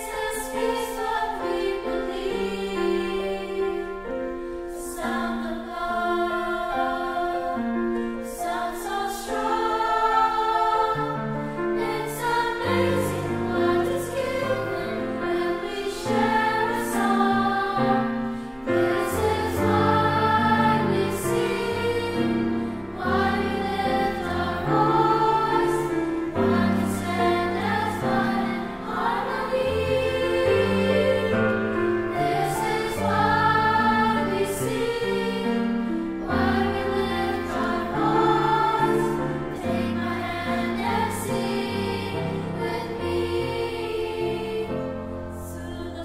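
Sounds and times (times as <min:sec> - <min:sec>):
children's choir singing: 0:00.0 - 0:46.0.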